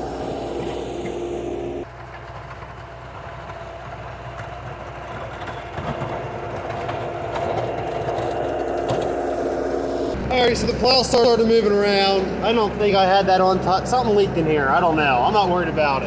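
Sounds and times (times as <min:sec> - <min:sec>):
plow pushing through snow: 0:00.0 - 0:16.0
skid steer engine running: 0:00.0 - 0:16.0.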